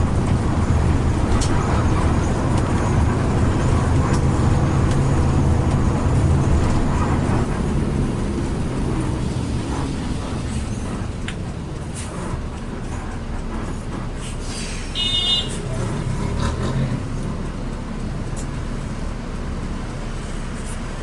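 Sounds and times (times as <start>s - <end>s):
coach engine droning: 0.0s - 21.0s
road noise: 0.0s - 21.0s.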